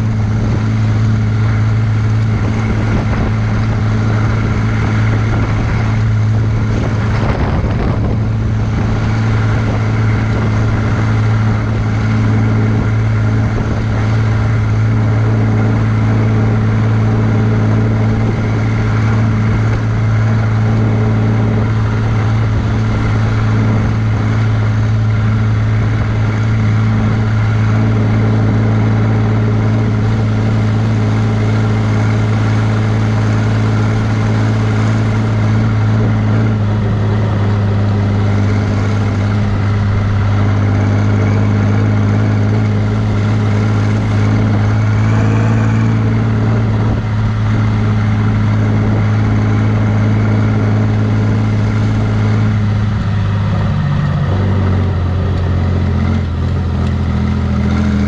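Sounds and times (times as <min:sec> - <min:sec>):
tractor diesel engine running: 0:00.0 - 0:58.0
tyre and road noise hiss: 0:00.0 - 0:58.0.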